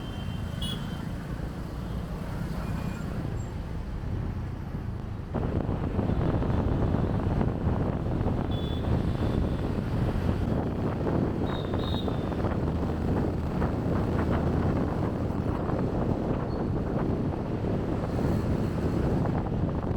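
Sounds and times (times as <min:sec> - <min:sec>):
motorbike engine and traffic rumble: 0:00.0 - 0:19.9
wind buffeting microphone: 0:03.2 - 0:19.9.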